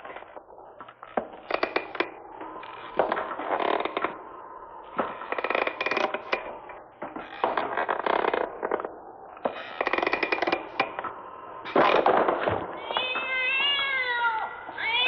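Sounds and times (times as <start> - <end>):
sharp cracks and snaps: 0.0 - 13.3
creaking and scraping: 0.0 - 15.0.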